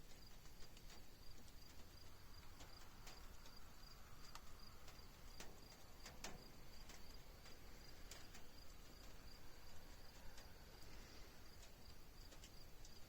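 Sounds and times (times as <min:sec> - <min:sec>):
faint crickets chirping: 0:00.0 - 0:13.0.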